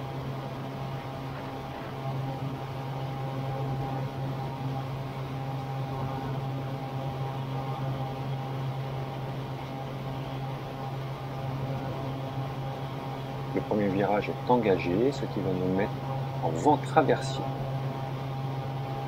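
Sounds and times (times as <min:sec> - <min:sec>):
microlight engine and propeller droning: 0:00.0 - 0:19.0.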